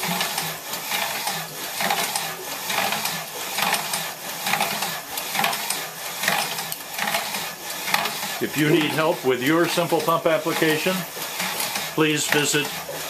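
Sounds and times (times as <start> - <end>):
pump mechanical clatter: 0.0 - 13.0.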